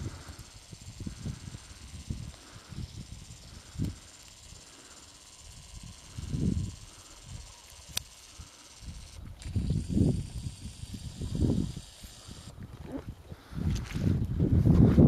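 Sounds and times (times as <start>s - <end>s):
wind buffeting microphone: 0.0s - 4.6s, 5.6s - 7.5s, 8.8s - 15.0s.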